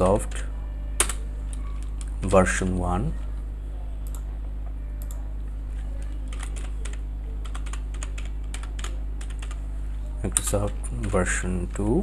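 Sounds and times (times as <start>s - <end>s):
keyboard typing: 0.0s - 3.4s, 4.0s - 4.3s, 4.9s - 9.7s, 10.3s - 11.9s
steady low hum: 0.0s - 12.0s.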